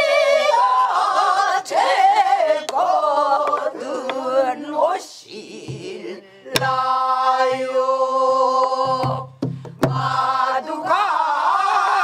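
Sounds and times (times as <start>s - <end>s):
group singing with vibrato: 0.0s - 12.0s.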